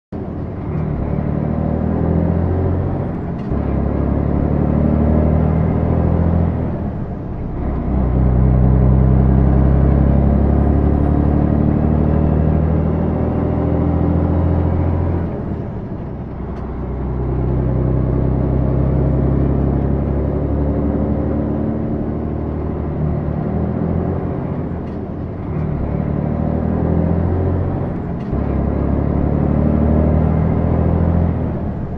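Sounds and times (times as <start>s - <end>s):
heavy truck engine shifting gears: 0.1s - 31.9s.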